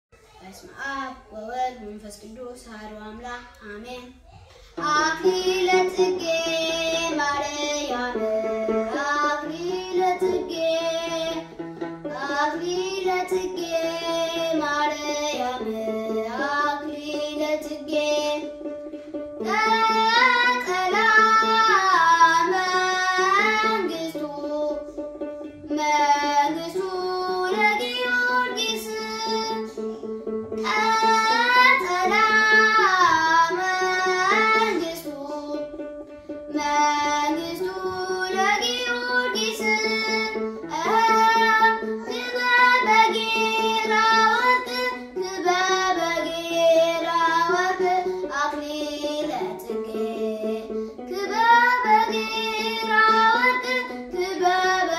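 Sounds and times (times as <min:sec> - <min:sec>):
boy singing a hymn: 0:00.4 - 0:18.7, 0:19.4 - 0:24.9, 0:25.6 - 0:35.8, 0:36.5 - 0:54.9
stringed instrument accompaniment: 0:04.6 - 0:54.9.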